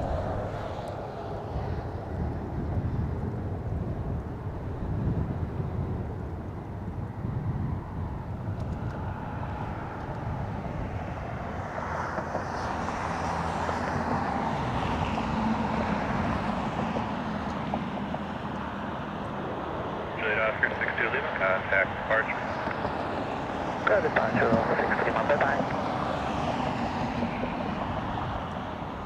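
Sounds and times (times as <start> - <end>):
jet aircraft passing: 0.0 - 29.0.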